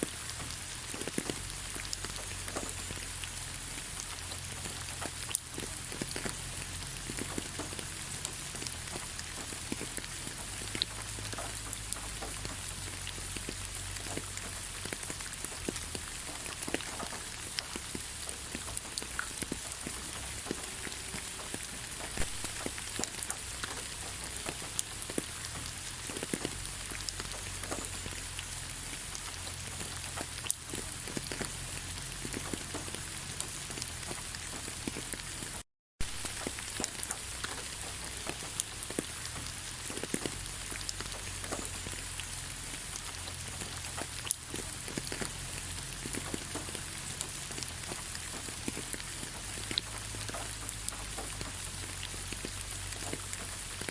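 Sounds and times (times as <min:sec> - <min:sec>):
rain falling in forest: 0:00.0 - 0:53.9
raindrops ticking: 0:00.0 - 0:53.9.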